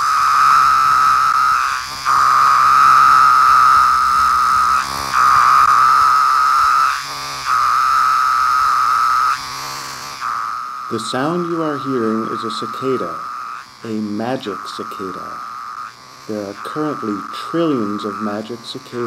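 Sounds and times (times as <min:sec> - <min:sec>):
cicada buzzing: 0:00.0 - 0:19.0.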